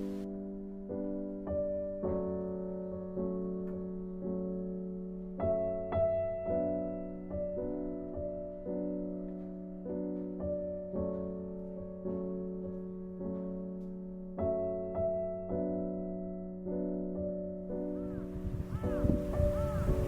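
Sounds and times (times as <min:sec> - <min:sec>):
gentle piano chords: 0:00.0 - 0:20.0.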